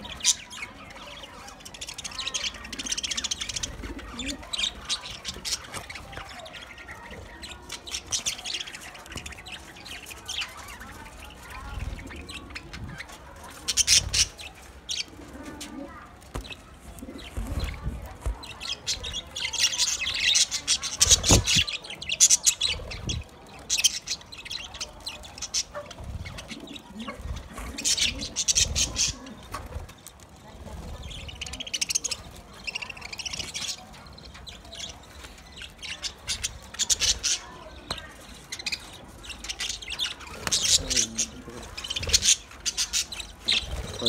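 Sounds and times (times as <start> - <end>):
budgerigars chattering and chirping: 0.0 - 15.3, 15.9 - 44.0.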